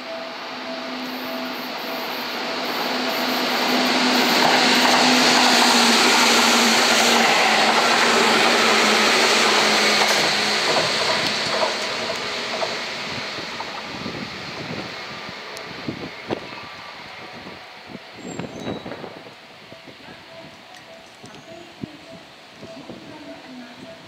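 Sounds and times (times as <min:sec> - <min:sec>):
electric train passing: 0:00.0 - 0:24.0.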